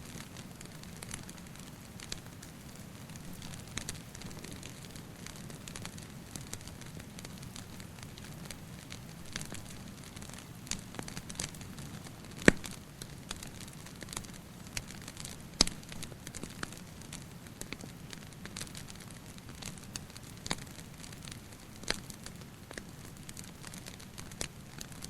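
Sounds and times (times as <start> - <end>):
loud fire pops: 0.0 - 25.0
wood fire crackling: 0.0 - 25.0.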